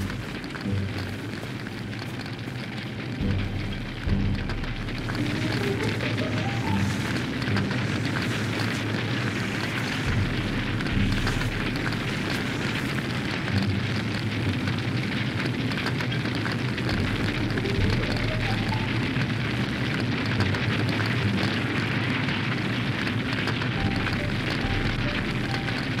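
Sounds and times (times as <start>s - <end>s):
car fire crackling: 0.0s - 26.0s.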